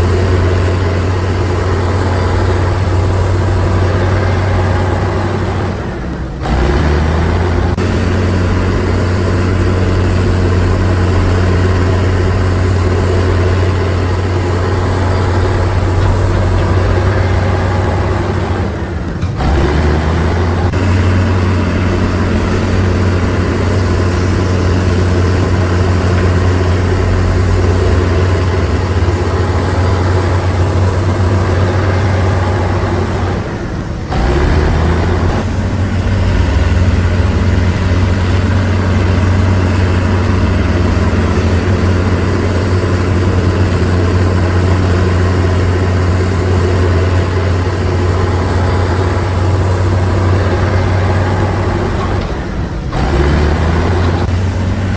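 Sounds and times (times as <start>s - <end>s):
heavy machine engine humming: 0.0s - 54.9s.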